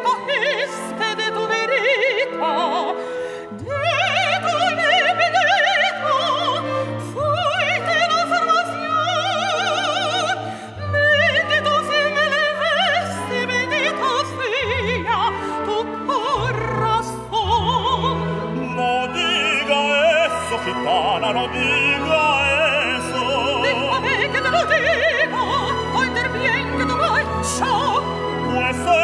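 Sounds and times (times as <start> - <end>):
soprano singing opera: 0.0 - 29.0
symphony orchestra: 0.0 - 29.0.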